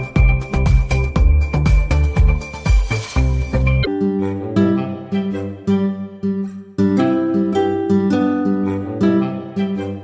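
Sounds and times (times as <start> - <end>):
upbeat electronic music: 0.0 - 10.0.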